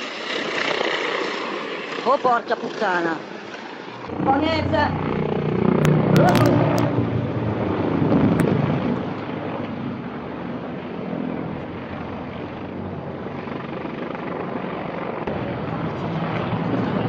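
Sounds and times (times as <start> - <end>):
helicopter rotor and engine: 0.0 - 17.0.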